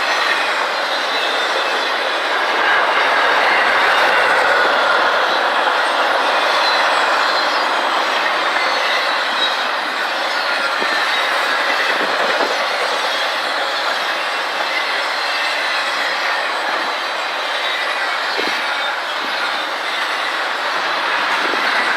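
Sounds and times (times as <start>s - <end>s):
train wheels running on rails: 0.0s - 21.9s.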